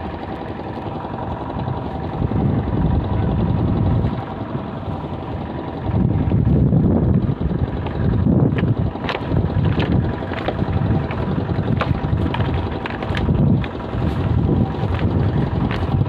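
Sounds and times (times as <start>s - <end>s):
wind buffeting microphone: 1.1s - 16.0s.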